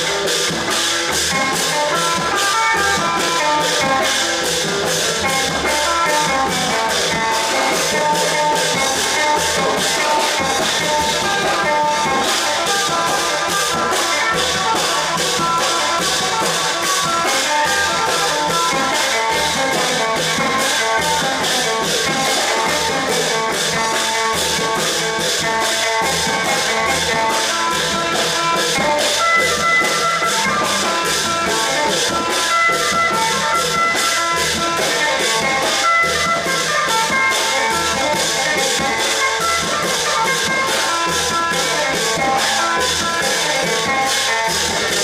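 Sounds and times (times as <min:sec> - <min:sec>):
fast drum and percussion beat: 0:00.0 - 0:45.0.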